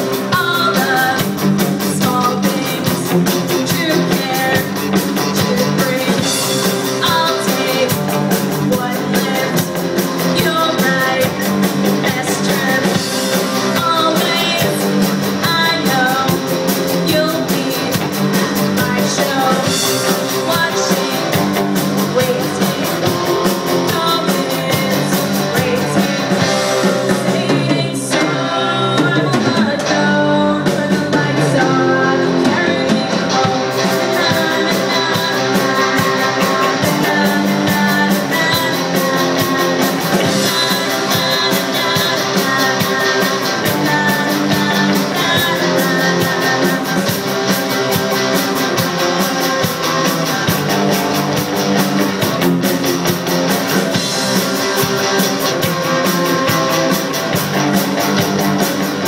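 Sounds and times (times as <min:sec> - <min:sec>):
lead vocalist singing: 0:00.0 - 0:49.6, 0:53.7 - 0:58.1
live rock band playing: 0:00.0 - 0:59.0.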